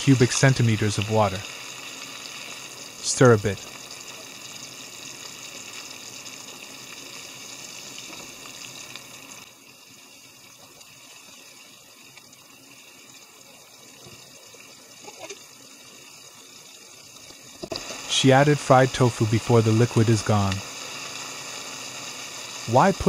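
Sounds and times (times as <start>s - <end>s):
broth simmering in frying pan: 0.0s - 23.0s.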